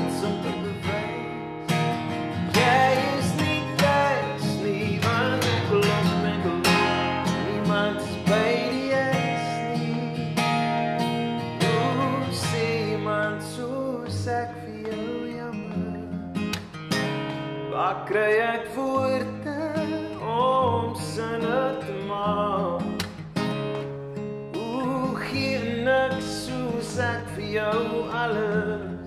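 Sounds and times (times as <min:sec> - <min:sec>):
man singing: 0:00.0 - 0:10.9, 0:11.6 - 0:16.4, 0:17.7 - 0:23.1, 0:24.5 - 0:29.0
acoustic guitar strumming: 0:00.0 - 0:29.0.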